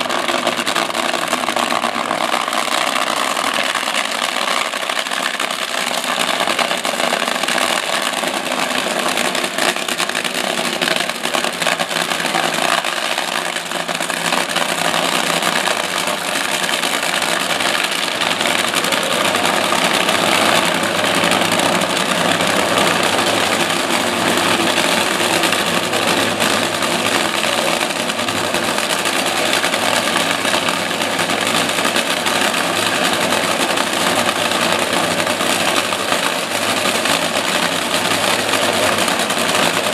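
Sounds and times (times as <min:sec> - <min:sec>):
race car engines idling: 0:00.0 - 0:39.9.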